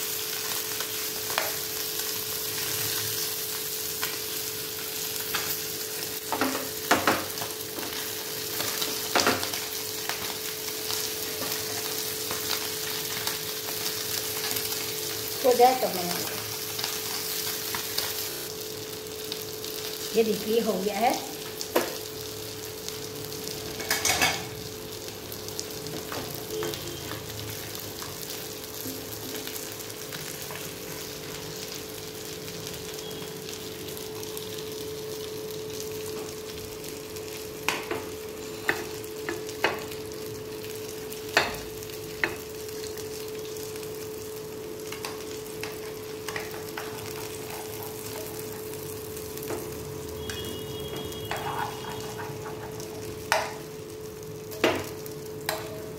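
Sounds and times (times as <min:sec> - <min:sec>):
fish sizzling in a frying pan: 0:00.0 - 0:55.9.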